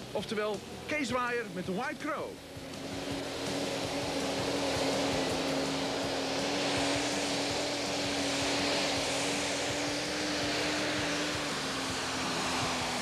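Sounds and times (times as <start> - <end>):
diesel engine running flat out: 0.0 - 13.0.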